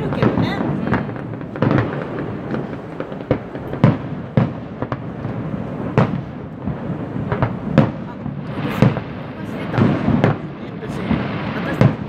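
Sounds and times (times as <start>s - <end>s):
fireworks booming: 0.0s - 12.0s.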